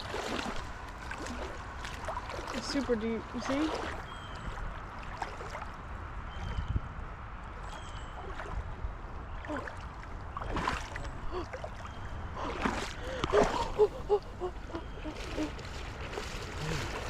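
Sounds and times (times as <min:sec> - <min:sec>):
creek water gurgling: 0:00.0 - 0:06.7, 0:07.3 - 0:17.0
water sloshing: 0:00.0 - 0:06.7, 0:07.5 - 0:17.0.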